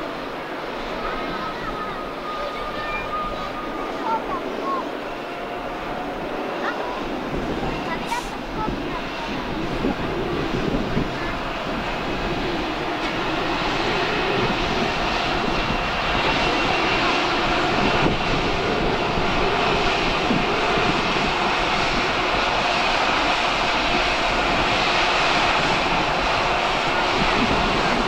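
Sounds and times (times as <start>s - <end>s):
jet engine rush: 0.0s - 28.0s.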